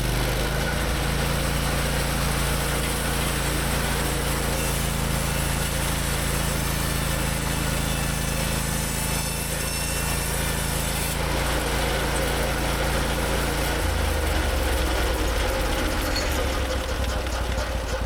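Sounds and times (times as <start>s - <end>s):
gas engine running: 0.0s - 9.0s, 10.0s - 18.0s
band blade sawing through log: 0.0s - 18.0s.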